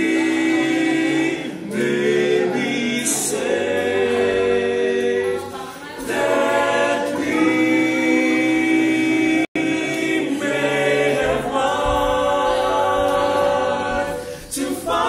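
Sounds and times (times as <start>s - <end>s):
male voices singing a cappella: 0.0s - 15.0s.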